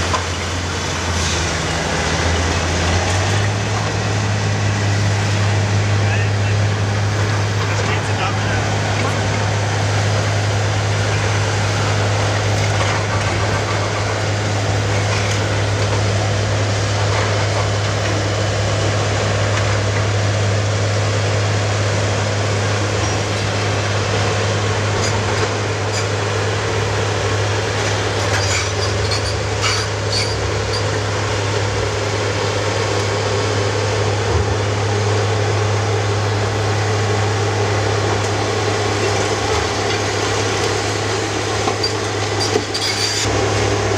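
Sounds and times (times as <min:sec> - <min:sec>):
diesel machinery droning: 0:00.0 - 0:43.9.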